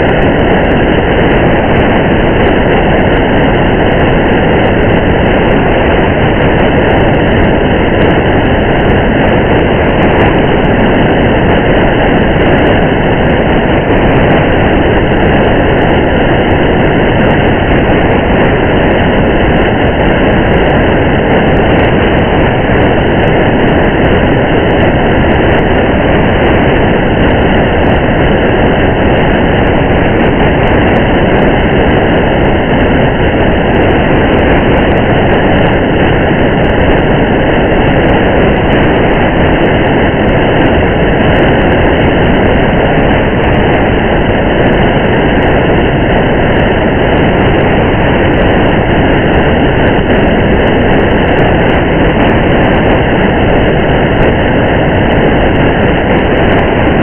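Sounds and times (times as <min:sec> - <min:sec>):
low road rumble: 0:00.0 - 0:57.0.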